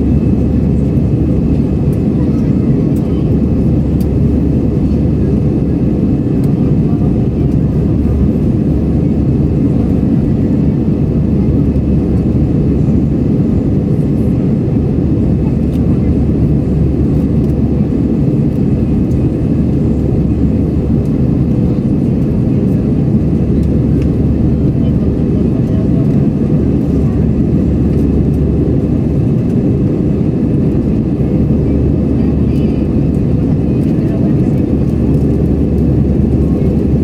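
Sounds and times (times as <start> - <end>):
airplane cabin roar: 0.0 - 37.0.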